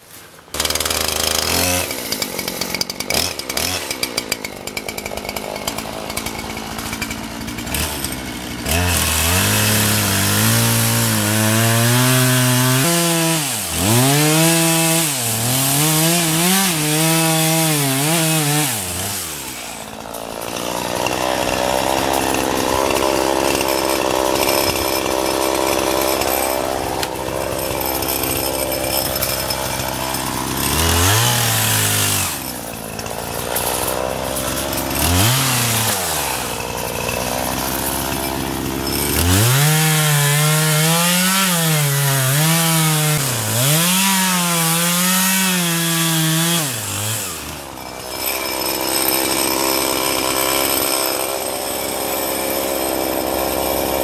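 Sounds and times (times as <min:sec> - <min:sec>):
chainsaw engine revving: 0:00.5 - 0:54.0.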